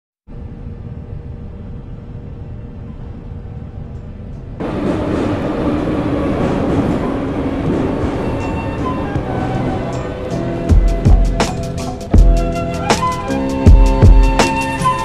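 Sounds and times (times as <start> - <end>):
metro train rumbling: 0.3 - 15.0.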